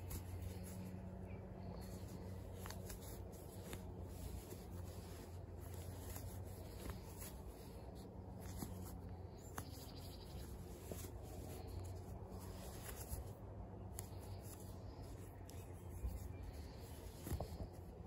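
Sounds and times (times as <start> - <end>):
low steady hum: 0.0 - 18.0
yarn rubbing and scratching: 0.0 - 18.0.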